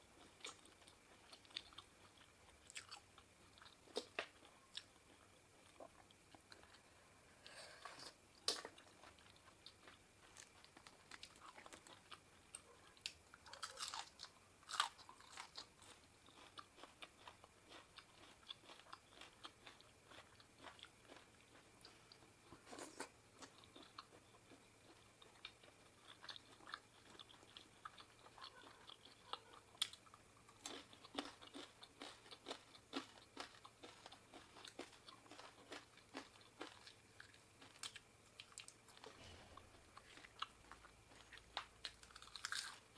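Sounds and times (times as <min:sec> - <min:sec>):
person chewing and crunching: 0:00.0 - 0:06.9, 0:07.8 - 0:42.9.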